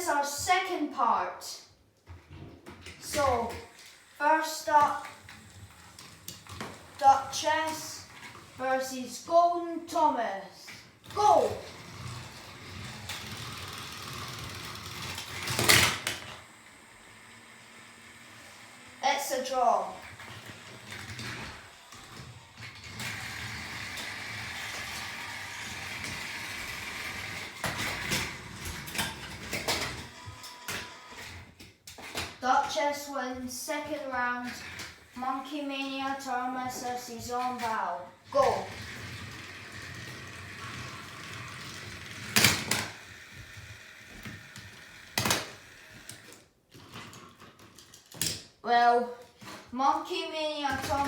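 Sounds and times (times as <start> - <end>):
toy train motors whirring: 2.8 - 48.4, 49.4 - 51.0.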